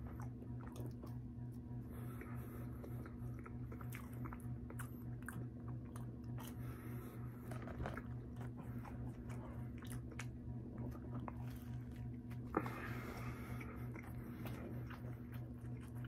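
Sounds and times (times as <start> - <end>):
person chewing fries: 0.0 - 16.0
steady low hum: 0.0 - 16.0.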